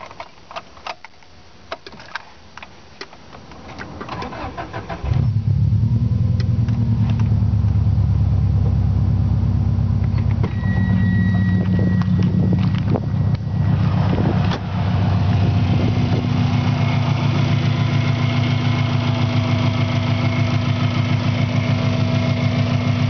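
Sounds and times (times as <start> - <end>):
car engine cranking and idling: 3.4 - 23.0.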